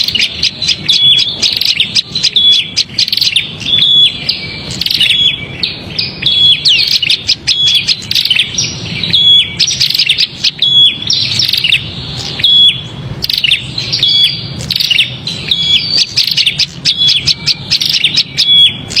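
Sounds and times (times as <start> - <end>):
bird chirping agitatedly: 0.0 - 19.0.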